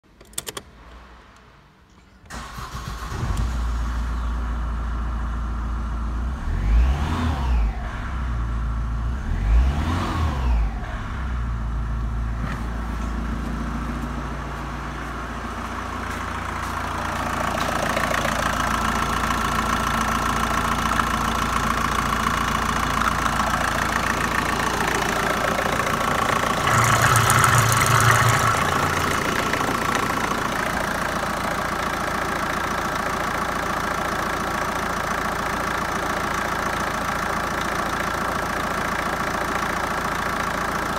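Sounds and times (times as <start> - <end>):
diesel engine idling: 2.4 - 6.6, 10.6 - 40.9.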